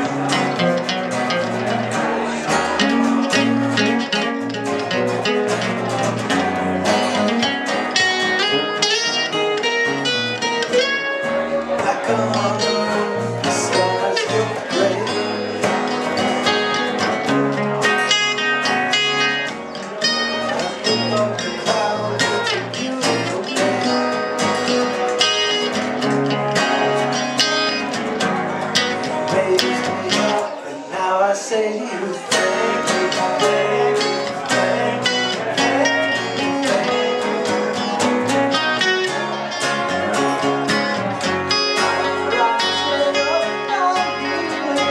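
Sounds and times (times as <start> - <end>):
bass line: 0.0 - 30.5, 32.3 - 44.9
guitar and dobro plucking: 0.0 - 44.9.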